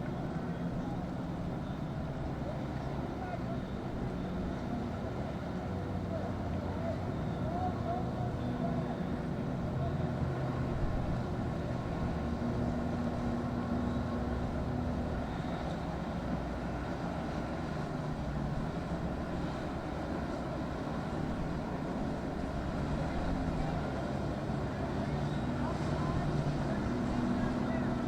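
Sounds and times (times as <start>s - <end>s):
boat engines running: 0.0s - 28.0s.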